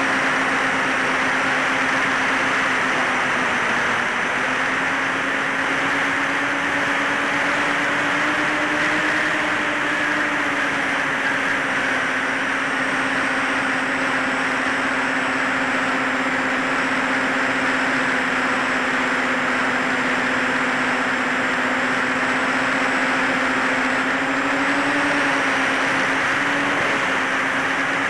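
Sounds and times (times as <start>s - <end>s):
electric motors and propellers droning: 0.0s - 28.0s.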